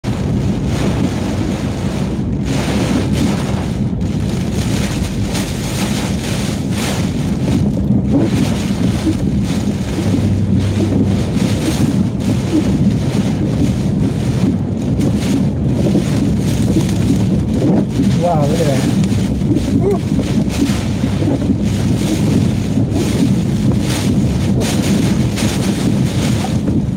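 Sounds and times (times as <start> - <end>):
driving rain on a car: 0.0 - 26.9
strong wind buffeting a car: 0.0 - 26.9.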